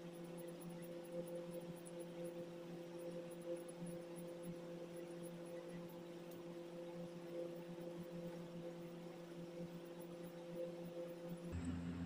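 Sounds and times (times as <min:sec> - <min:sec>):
faint steady hum: 0:00.9 - 0:12.0.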